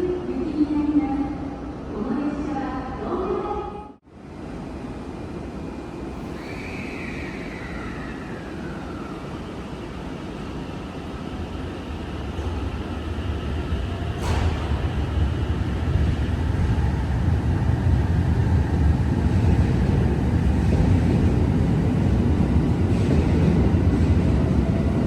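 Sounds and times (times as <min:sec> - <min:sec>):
train rumble: 0:04.4 - 0:25.0.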